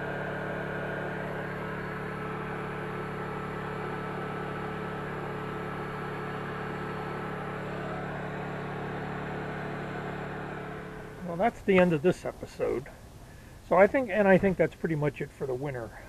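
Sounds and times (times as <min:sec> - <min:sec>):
portable generator humming: 0:00.0 - 0:16.0.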